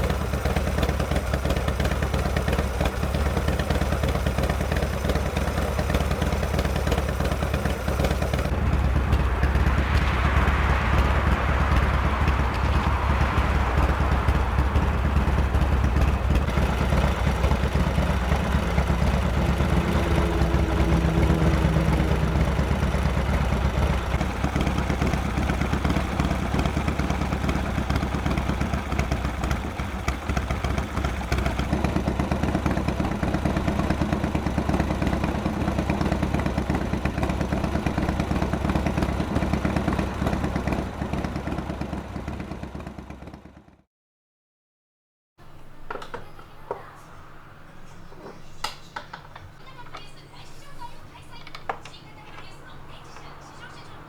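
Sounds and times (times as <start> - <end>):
motorcycle engine running: 0.0 - 43.8, 45.4 - 54.0.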